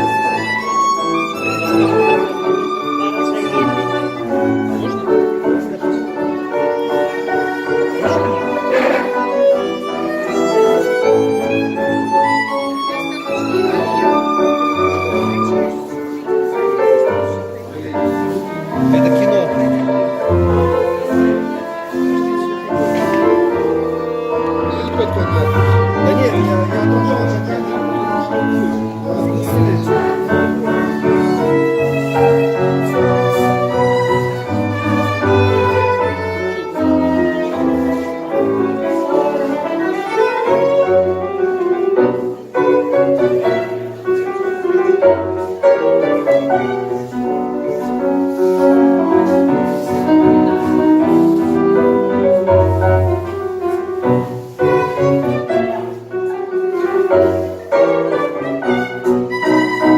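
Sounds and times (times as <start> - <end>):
bowed strings: 0.0 - 59.9
piano: 0.0 - 59.9
violin melody: 0.0 - 59.9.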